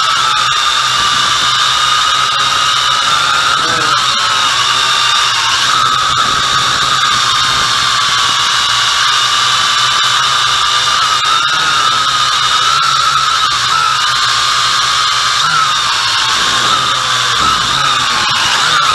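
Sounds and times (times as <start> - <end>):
quadcopter propellers whining: 0.0 - 18.9.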